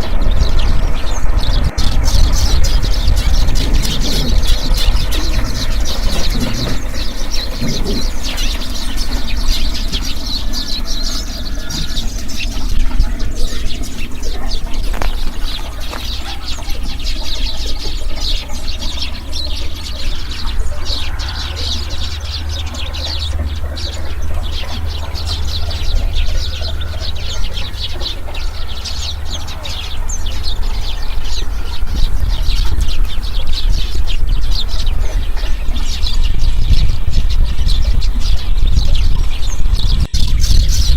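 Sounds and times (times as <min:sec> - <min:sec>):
flock of small birds chirping: 0:00.0 - 0:40.9
steady low rumble: 0:00.0 - 0:40.9.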